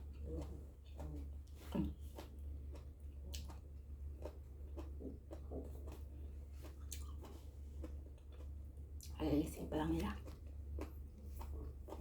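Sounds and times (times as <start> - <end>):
steady low hum: 0.0 - 12.0
wet chewing and biting: 0.0 - 12.0.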